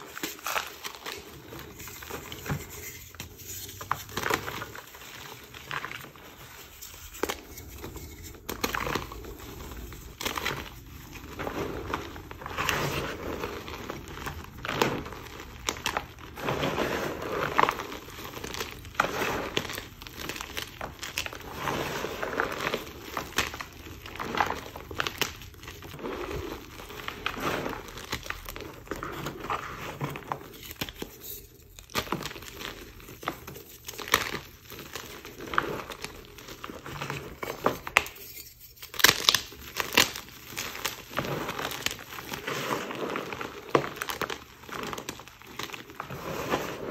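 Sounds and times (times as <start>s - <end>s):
chalk crunching and crumbling: 0.0s - 46.9s.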